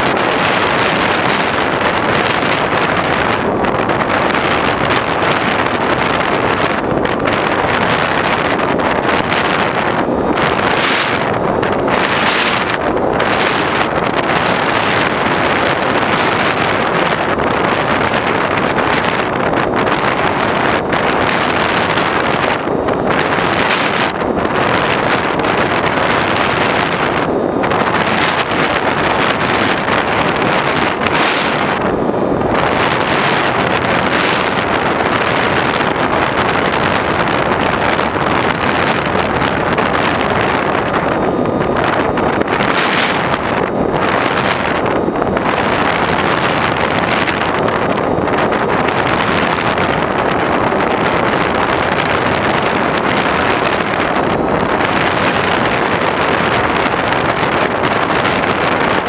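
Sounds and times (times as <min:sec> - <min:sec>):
airflow rushing over microphone: 0:00.0 - 0:59.0
motor and propeller running: 0:00.0 - 0:59.0.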